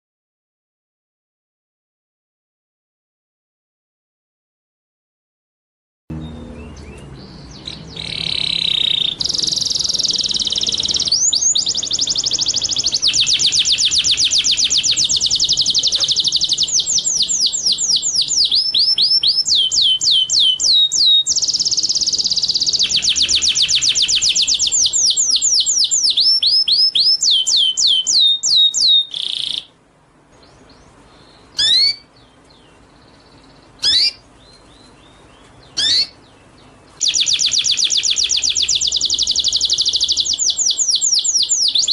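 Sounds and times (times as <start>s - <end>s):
sharp downward-sweeping bird calls: 6.1s - 29.8s, 30.5s - 36.3s, 36.9s - 41.9s
songbird singing: 6.1s - 41.9s.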